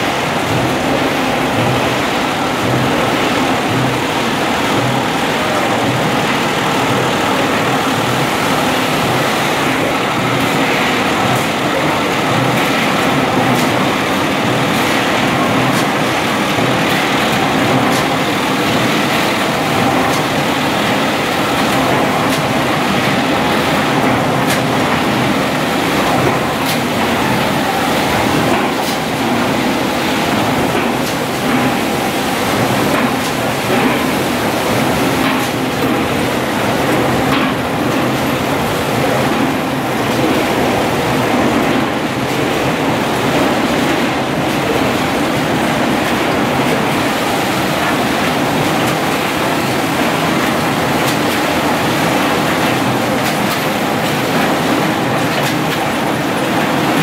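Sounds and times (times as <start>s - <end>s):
can-making machinery din: 0.0s - 57.0s.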